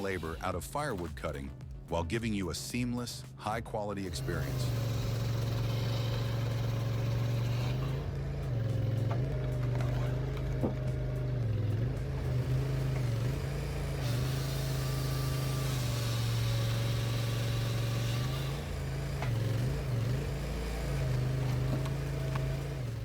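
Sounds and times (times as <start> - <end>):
loader engine running: 4.0 - 23.0.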